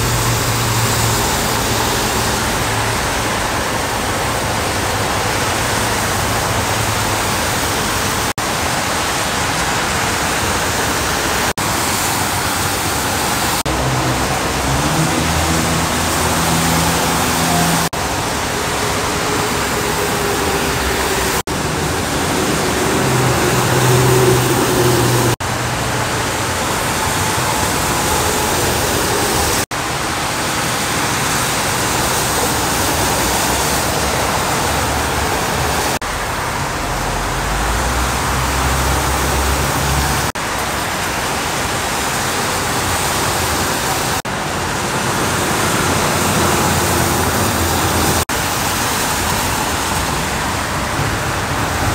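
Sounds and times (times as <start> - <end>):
truck engines droning: 0.0 - 51.9
tyres hissing on wet road: 0.0 - 51.9.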